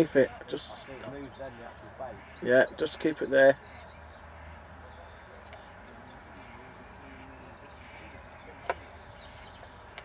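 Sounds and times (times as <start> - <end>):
faint birdsong: 0.0 - 10.0
high bird chirps: 0.0 - 10.0
low background noise: 0.0 - 10.0.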